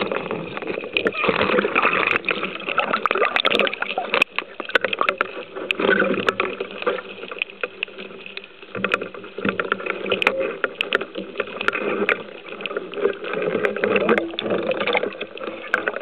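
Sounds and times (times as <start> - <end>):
muffled underwater churning: 0.0 - 16.0.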